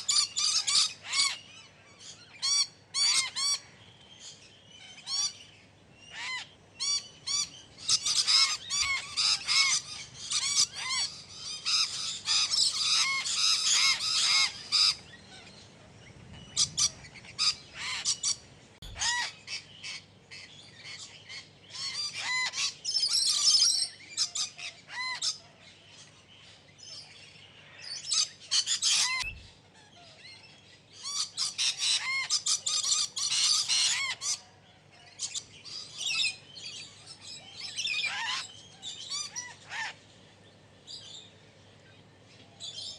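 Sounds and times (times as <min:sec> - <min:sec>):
parrots chirping and squawking: 0:00.0 - 0:03.8, 0:04.8 - 0:15.6, 0:16.6 - 0:25.4, 0:27.7 - 0:34.4, 0:35.0 - 0:40.0.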